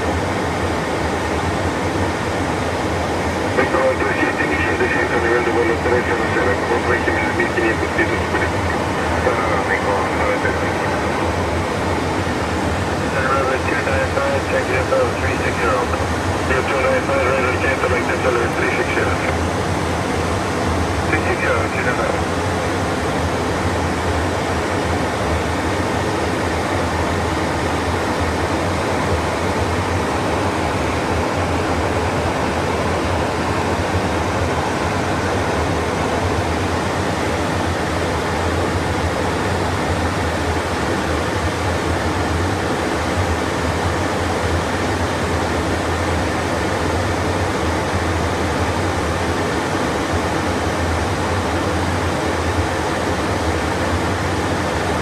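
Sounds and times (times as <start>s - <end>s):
constant low hum: 0.0s - 55.0s
rushing airflow in cockpit: 0.1s - 55.0s.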